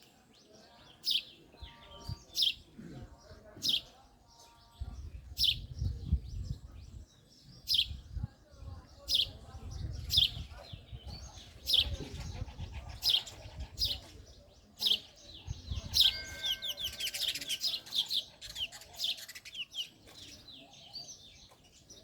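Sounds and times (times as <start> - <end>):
sparrow chirping: 0.4 - 22.0.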